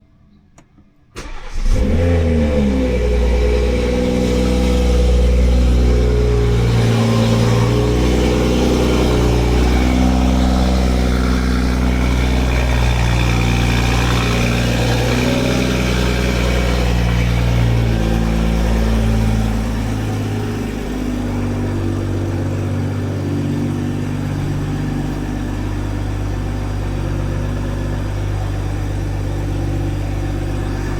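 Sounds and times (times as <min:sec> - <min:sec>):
car engine fast idle: 0:01.1 - 0:30.9.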